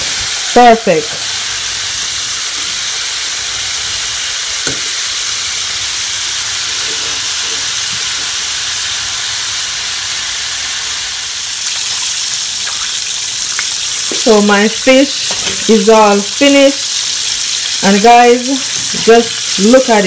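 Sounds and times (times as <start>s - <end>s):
fish deep-frying in hot oil: 0.0s - 20.0s.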